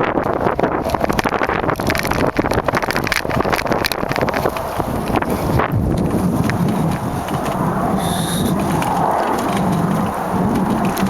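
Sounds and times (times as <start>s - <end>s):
bike tyres on gravel rattling: 0.0s - 11.0s
wind buffeting microphone: 0.0s - 11.0s.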